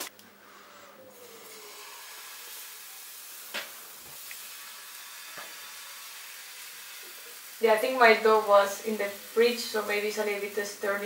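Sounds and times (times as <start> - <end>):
crepe batter sizzling in pan: 1.2 - 11.0.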